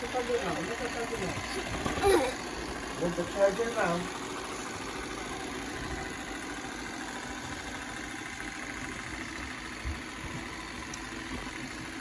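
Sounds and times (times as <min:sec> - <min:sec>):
robot vacuum motor and brush whir: 0:00.0 - 0:12.0.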